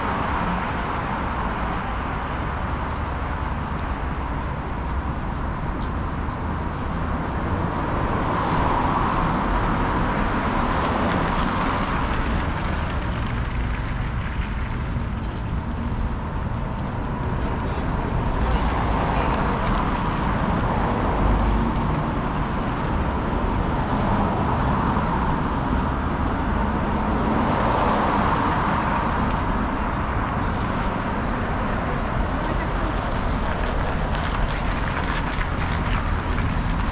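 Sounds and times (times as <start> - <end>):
cars driving by: 0.0 - 36.9.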